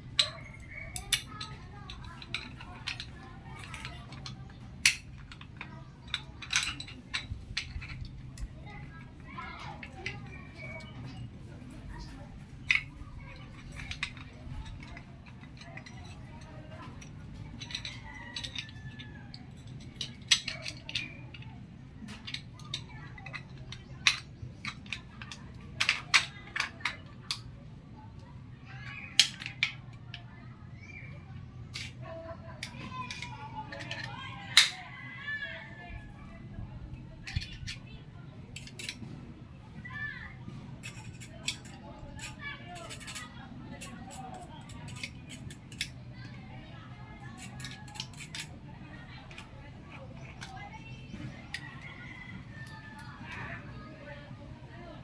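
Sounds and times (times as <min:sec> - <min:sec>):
sharp clicks and clinks: 0:00.0 - 0:27.6, 0:28.2 - 0:32.0, 0:38.5 - 0:39.1, 0:40.8 - 0:53.5.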